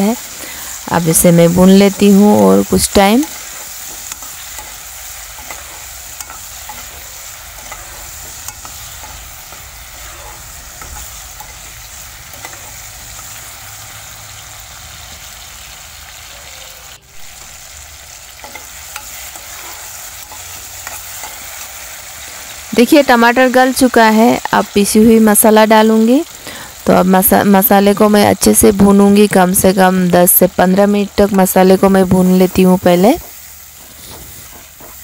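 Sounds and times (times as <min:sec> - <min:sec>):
onion sizzling in oil: 0:00.0 - 0:35.0.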